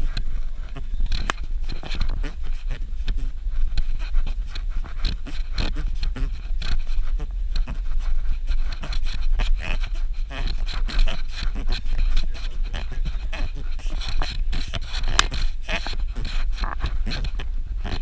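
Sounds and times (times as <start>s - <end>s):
vehicle rumbling on dirt road: 0.0s - 18.0s.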